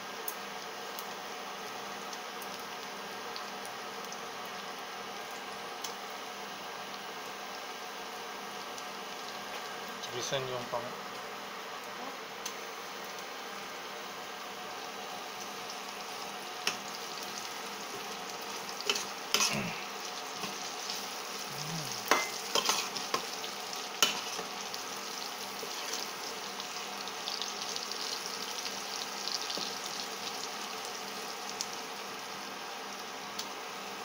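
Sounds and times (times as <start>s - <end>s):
garlic sizzling in pan: 0.0s - 34.0s.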